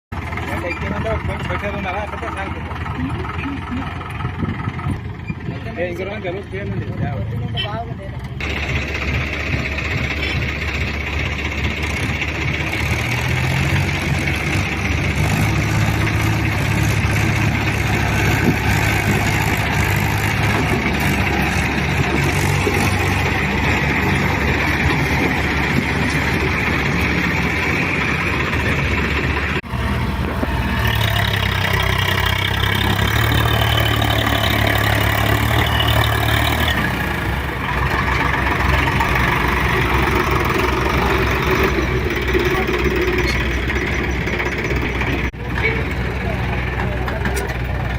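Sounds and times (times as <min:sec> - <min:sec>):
engine running: 0:00.1 - 0:47.9
tractor diesel engine running: 0:00.1 - 0:47.9.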